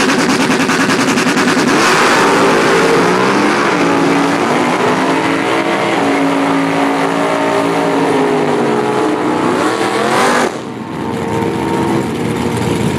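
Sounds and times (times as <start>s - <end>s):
race car engine at full throttle: 0.0s - 12.9s.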